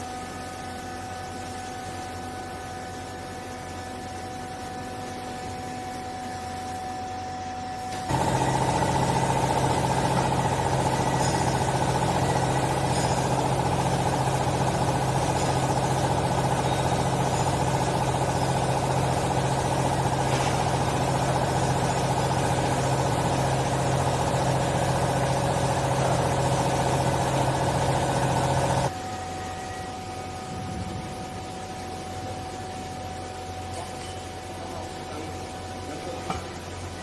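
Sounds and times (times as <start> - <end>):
hydraulic power unit humming: 0.0 - 37.0.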